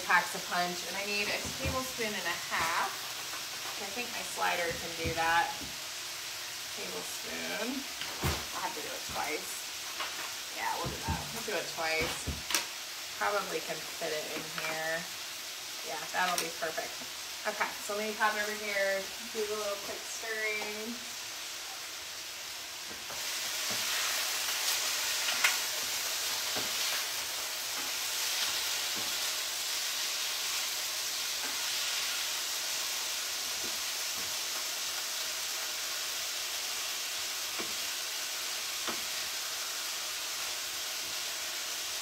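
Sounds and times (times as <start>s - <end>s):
chicken sizzling in oil: 0.0s - 42.0s.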